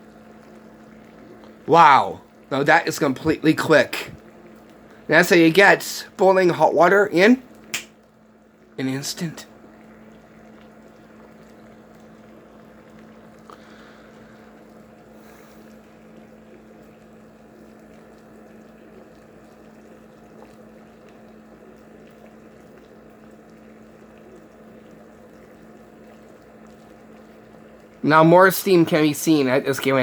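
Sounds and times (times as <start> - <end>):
low hum: 0.0 - 30.0
water boiling in a pot: 0.0 - 30.0.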